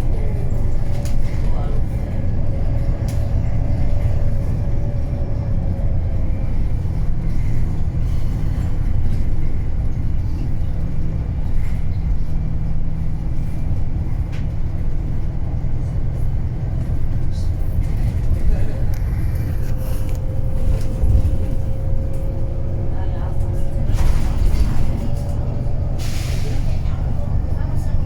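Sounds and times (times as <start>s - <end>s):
bus diesel engine rumbling: 0.0s - 28.0s.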